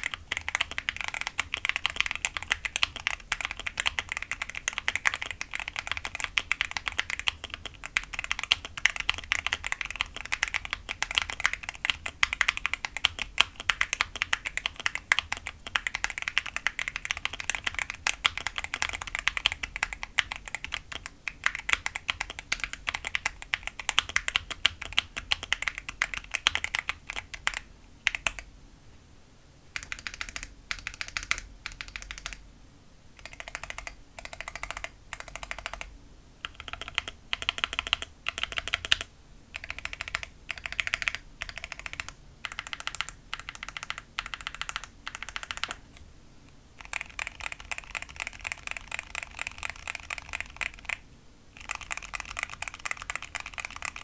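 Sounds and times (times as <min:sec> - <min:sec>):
typing on mechanical keyboard: 0:00.0 - 0:28.5, 0:29.8 - 0:32.4, 0:33.2 - 0:45.8, 0:46.8 - 0:51.0, 0:51.6 - 0:54.0.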